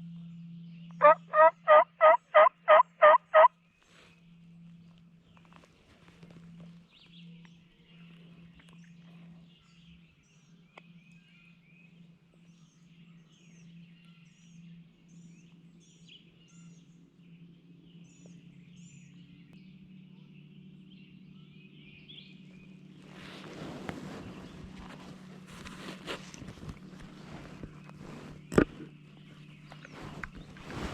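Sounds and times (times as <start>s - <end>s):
songbirds chirping and warbling: 0.0s - 30.9s
steady low hum: 0.0s - 30.9s.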